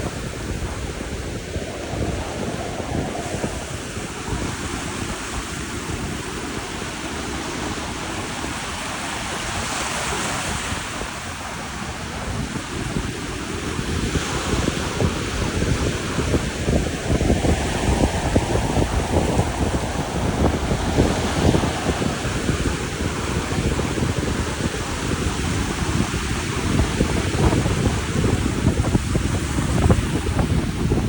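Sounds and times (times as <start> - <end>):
waves rushing: 0.0 - 31.0
wind buffeting microphone: 0.0 - 31.0.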